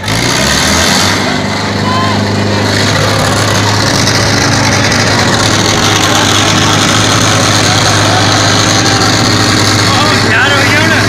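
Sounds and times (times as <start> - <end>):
tractor diesel engine running: 0.0 - 11.0
crowd shouting: 1.3 - 11.0.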